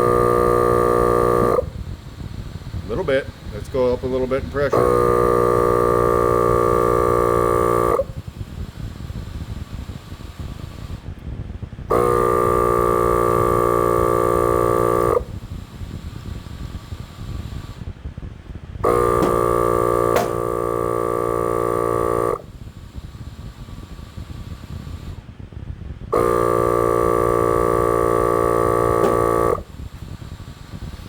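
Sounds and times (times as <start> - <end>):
air compressor buzzing: 0.0 - 31.0.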